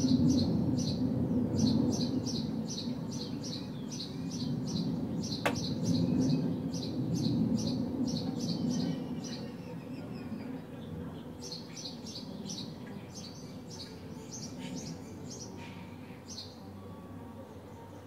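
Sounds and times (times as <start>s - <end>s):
low street rumble: 0.0s - 18.0s
sparrows chirping: 0.0s - 18.0s.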